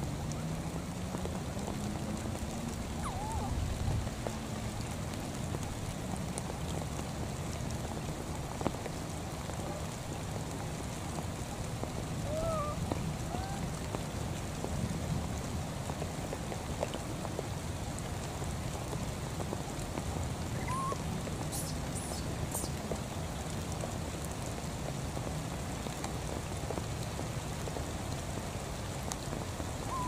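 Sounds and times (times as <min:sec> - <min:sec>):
rain falling on water and grass: 0:00.0 - 0:30.0.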